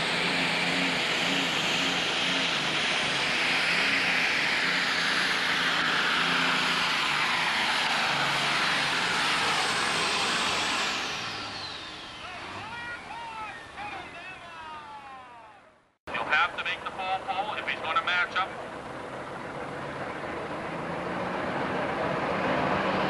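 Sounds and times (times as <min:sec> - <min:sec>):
diesel tractor engine at full throttle: 0:00.0 - 0:14.0, 0:16.1 - 0:23.0
high turbo whine: 0:00.0 - 0:23.0.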